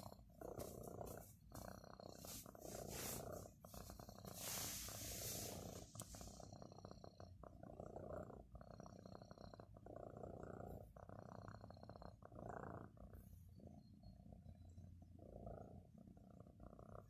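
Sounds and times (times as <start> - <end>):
cat purring softly: 0.0 - 17.0.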